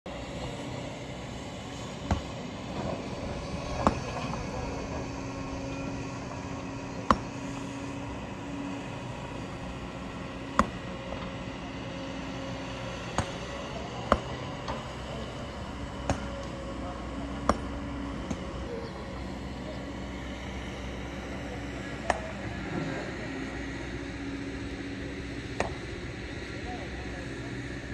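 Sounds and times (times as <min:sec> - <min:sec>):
excavator running: 0:00.1 - 0:27.9.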